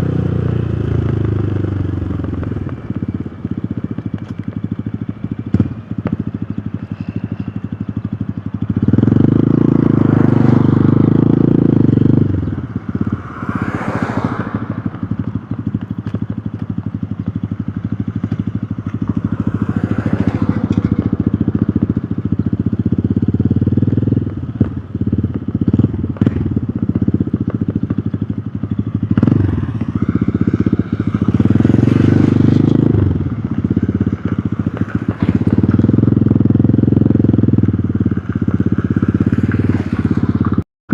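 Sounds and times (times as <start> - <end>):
motorcycle engine running: 0.0 - 40.6.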